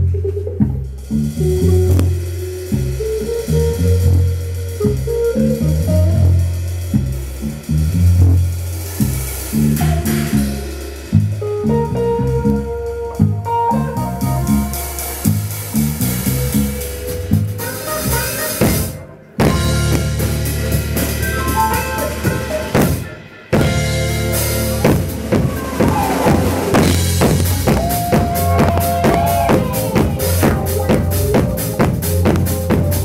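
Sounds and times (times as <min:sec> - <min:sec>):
bass drum and snare beat: 0:00.0 - 0:33.0
live band playing upbeat music: 0:00.1 - 0:07.1, 0:08.9 - 0:33.0.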